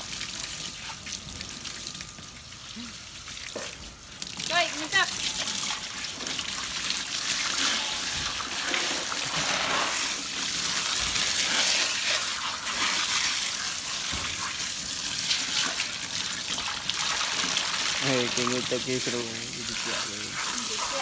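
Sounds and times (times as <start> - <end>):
garden hose spraying water: 0.0 - 21.0.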